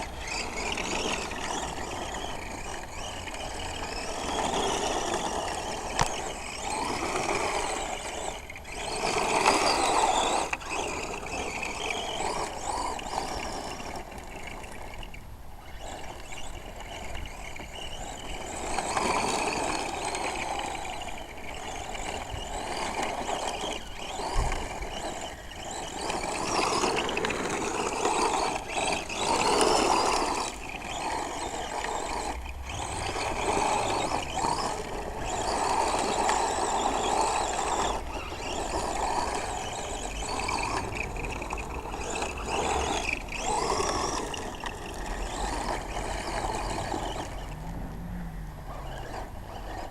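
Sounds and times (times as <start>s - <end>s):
toy truck motor whining: 0.0s - 49.9s.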